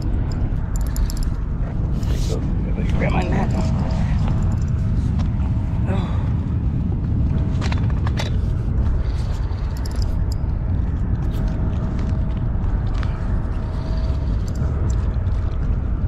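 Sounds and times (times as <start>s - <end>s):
fishing gear clicks and scrapes: 0.0s - 5.2s, 7.4s - 15.7s
wind buffeting microphone: 0.0s - 16.0s.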